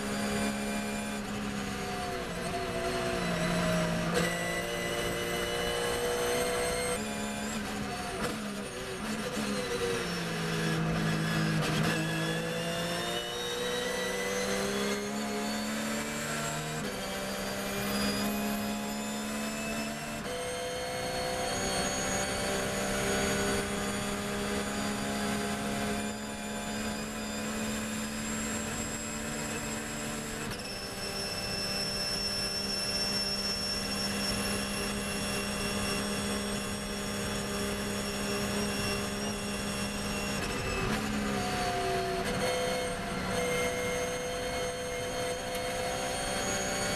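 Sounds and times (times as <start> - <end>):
racing engine accelerating: 0.0 - 46.9.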